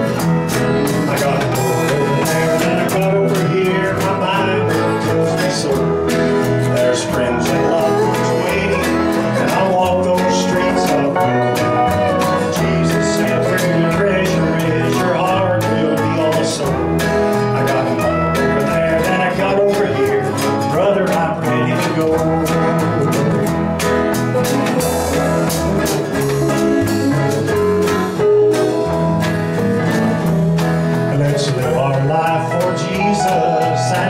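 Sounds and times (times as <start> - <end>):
country gospel band playing: 0.0 - 34.0
strummed acoustic guitar: 0.0 - 34.0.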